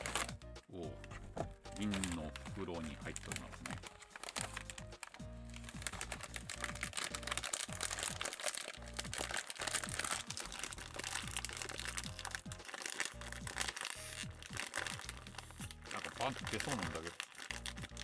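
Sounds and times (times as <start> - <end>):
foil pouch crinkling: 0.0 - 0.4, 1.6 - 18.0
background music with steady beat: 0.0 - 18.0.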